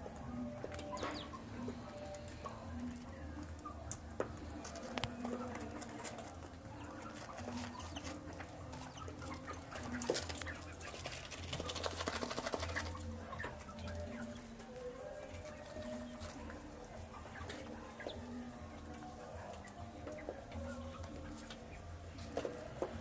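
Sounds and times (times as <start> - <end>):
chicks pecking feed: 0.0 - 23.0
chicks peeping: 0.0 - 23.0.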